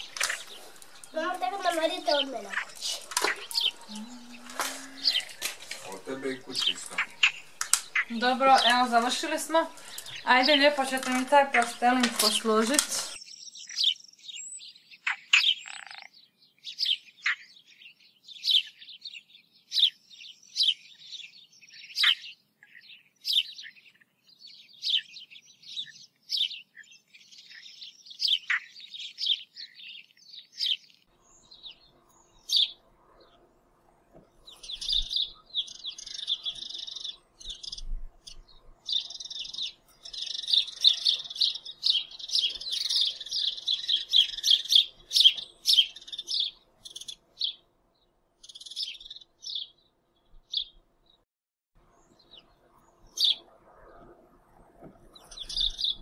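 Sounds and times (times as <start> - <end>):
bird chirping: 0.0 - 51.2, 51.8 - 56.0.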